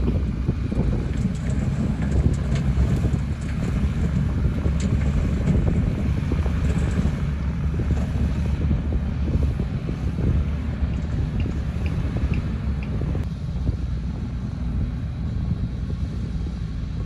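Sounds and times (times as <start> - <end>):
bulldozer diesel engine rumbling: 0.0 - 17.0
wind buffeting microphone: 0.0 - 17.0.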